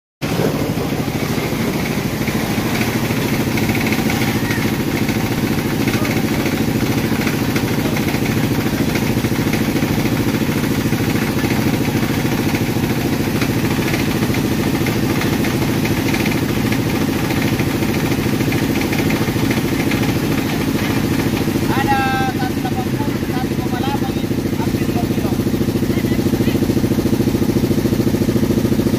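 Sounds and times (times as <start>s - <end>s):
small engine running: 0.2s - 28.9s.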